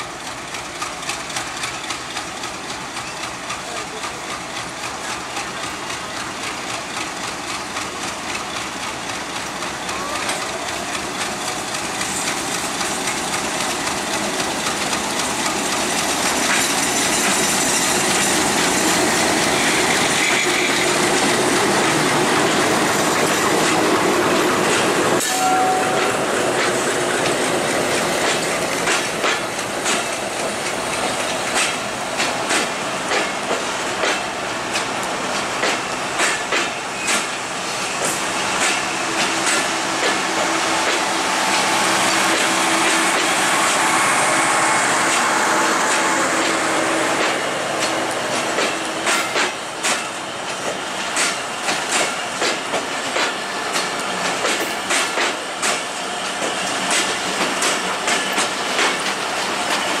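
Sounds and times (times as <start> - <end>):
train rushing noise with low hum: 0.0 - 60.0
train wheels clicking over rail joints: 0.0 - 60.0.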